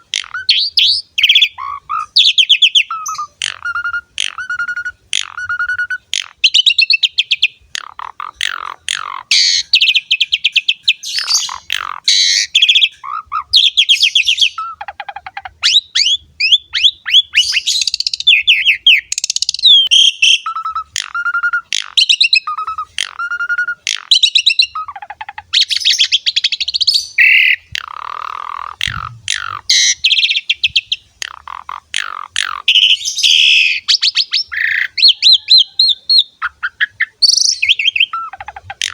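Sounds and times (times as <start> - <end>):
starling singing varied song: 0.0 - 38.9.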